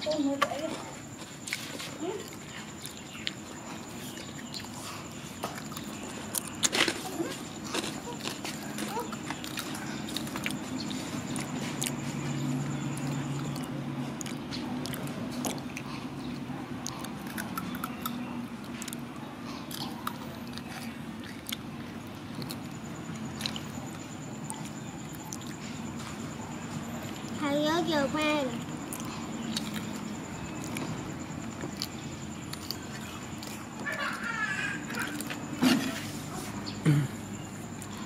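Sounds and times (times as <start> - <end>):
crunchy snacks being chewed: 0.2 - 27.4, 28.2 - 38.0.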